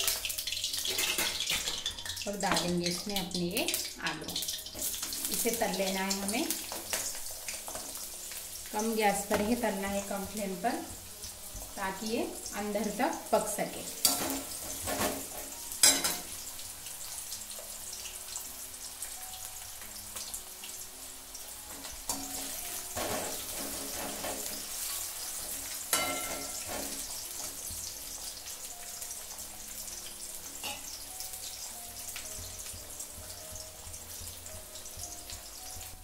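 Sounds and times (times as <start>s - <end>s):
potato slices sizzling in oil: 0.0s - 36.0s.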